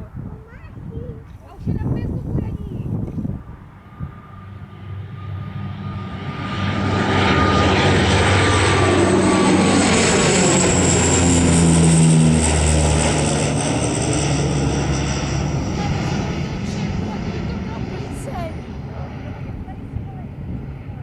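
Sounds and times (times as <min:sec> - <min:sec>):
turboprop aircraft taking off: 0:00.0 - 0:21.0.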